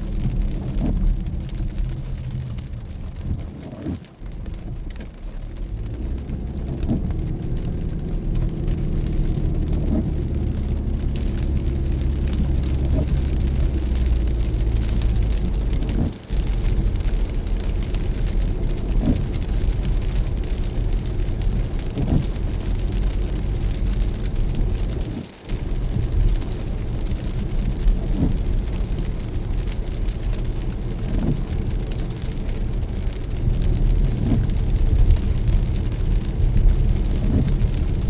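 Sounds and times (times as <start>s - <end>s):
car engine and road hum: 0.0s - 38.0s
rain on car: 0.0s - 38.0s.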